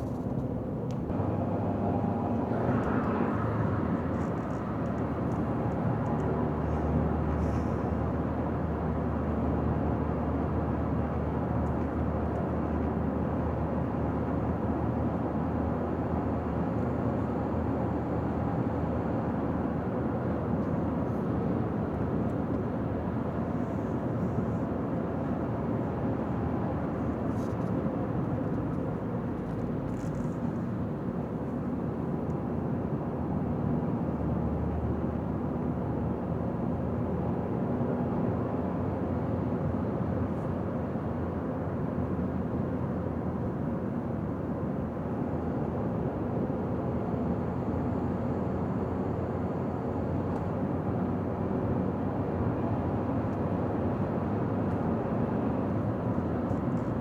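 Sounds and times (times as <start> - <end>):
car cruising on highway: 0.0 - 57.0.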